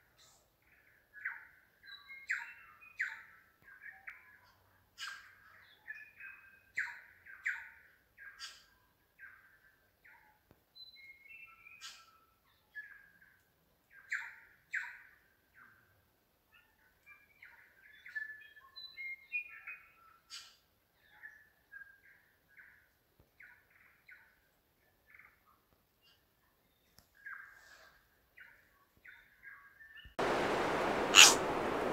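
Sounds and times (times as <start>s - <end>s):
bird song with sharp clicks: 1.1s - 15.8s, 16.9s - 24.4s, 25.1s - 27.6s, 28.4s - 30.2s.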